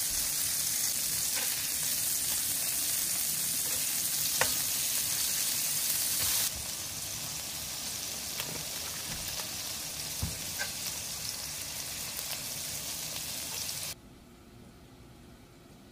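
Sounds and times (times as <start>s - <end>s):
patties sizzling in hot grease: 0.0s - 14.0s.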